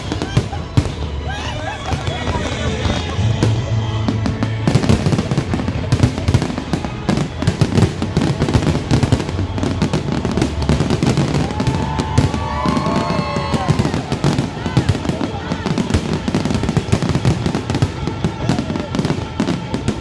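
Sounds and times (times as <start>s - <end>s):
fireworks bangs and crackles: 0.0s - 20.0s
whistling fireworks: 0.0s - 20.0s.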